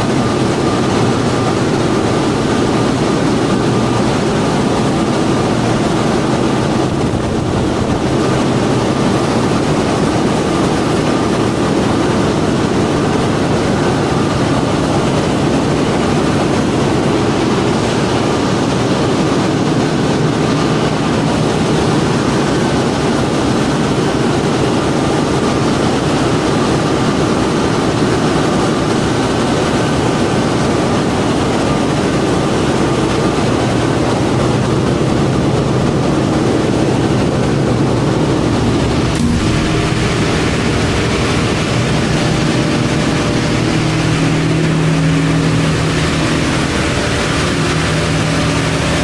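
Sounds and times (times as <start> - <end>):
engine room machinery hum: 0.0 - 49.0.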